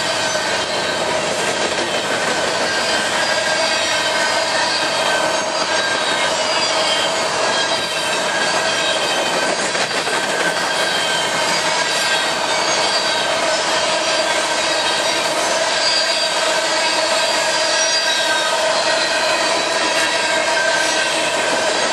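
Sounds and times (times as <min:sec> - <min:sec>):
high wheel squeal: 0:00.0 - 0:21.9
train wheels rattling on rail: 0:00.0 - 0:21.9.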